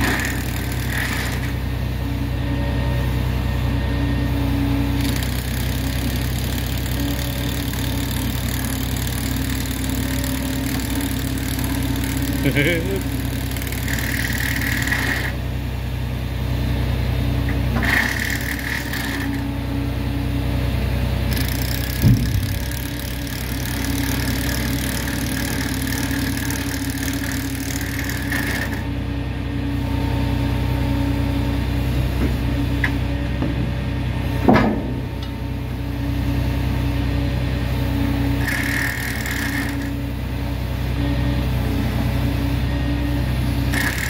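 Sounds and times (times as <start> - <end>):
heavy machine engine running: 0.0 - 44.0.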